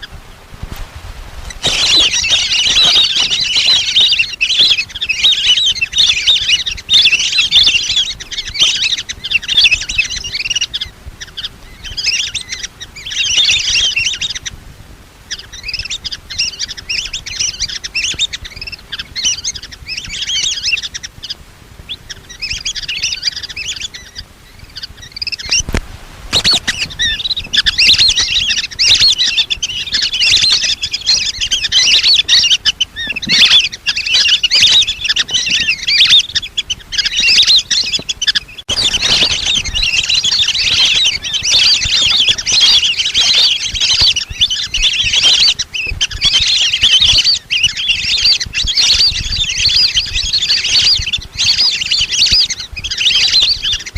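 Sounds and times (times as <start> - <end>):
ducks whistling calls: 1.5 - 14.6, 15.2 - 53.9.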